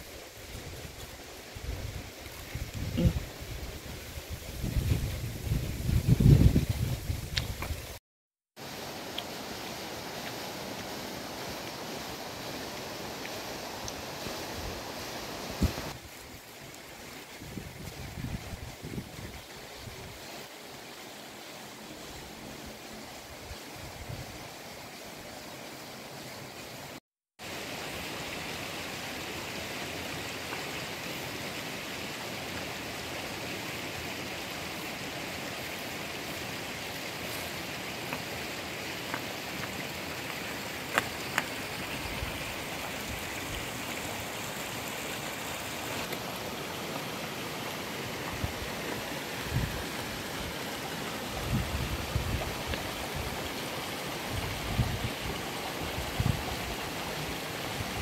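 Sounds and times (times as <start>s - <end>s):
river water over rocks: 8.6s - 58.0s.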